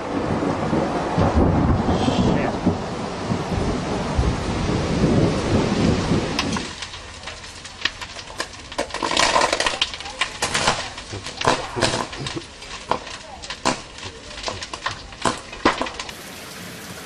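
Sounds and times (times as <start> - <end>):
deep rumbling thunder: 0.0 - 16.1
house fire crackling and popping: 0.0 - 17.0.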